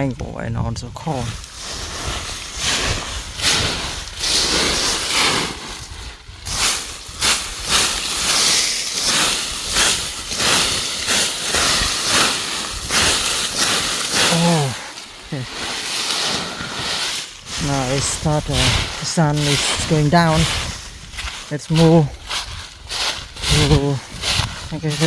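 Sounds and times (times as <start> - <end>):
dry leaves rustling and crunching: 1.2 - 25.0.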